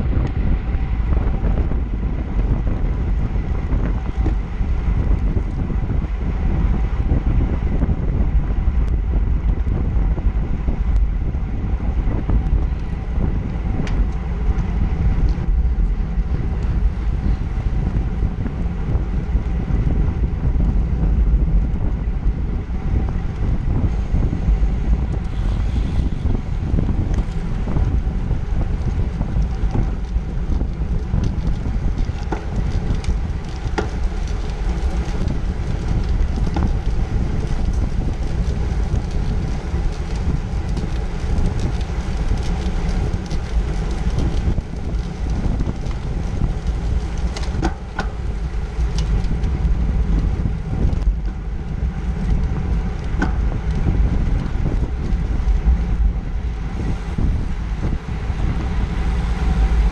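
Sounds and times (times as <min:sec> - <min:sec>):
tyre noise on asphalt: 0:00.0 - 0:59.9
wind rush over microphone: 0:00.0 - 0:59.9.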